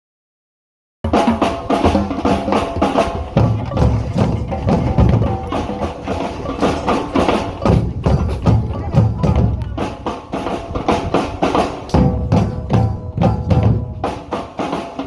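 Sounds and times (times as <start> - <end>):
drums in a fast rhythm: 1.0 - 15.0.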